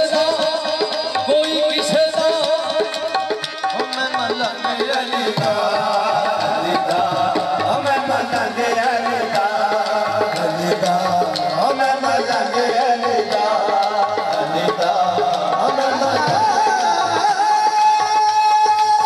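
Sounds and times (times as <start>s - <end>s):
continuous melody: 0.0s - 19.0s
tabla drumming: 0.0s - 19.0s.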